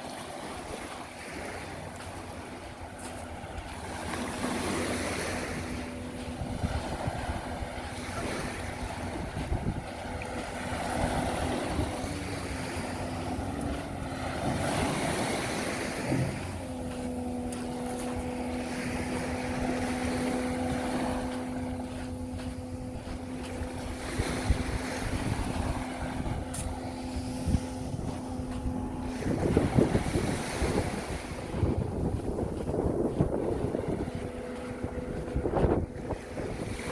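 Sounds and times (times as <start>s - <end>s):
boat engine hum: 0.0s - 36.9s
sea waves washing in: 0.0s - 36.9s
wind: 0.0s - 36.9s.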